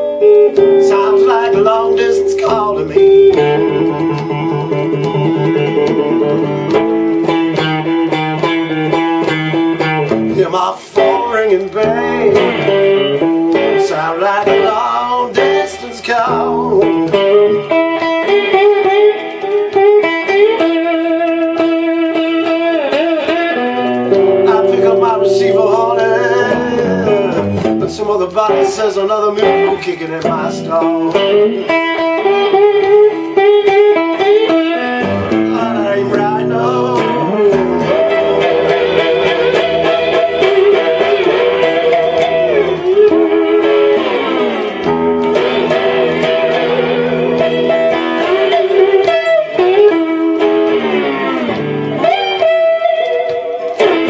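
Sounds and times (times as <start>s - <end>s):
slide electric guitar blues: 0.0s - 54.0s.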